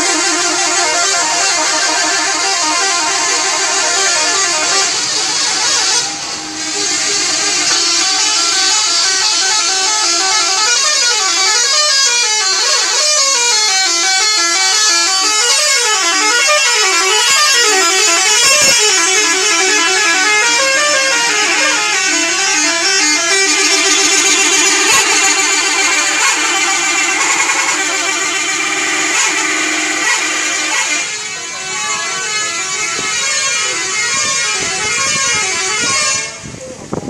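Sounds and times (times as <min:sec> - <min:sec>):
musical bus horn melody: 0:00.0 - 0:37.0.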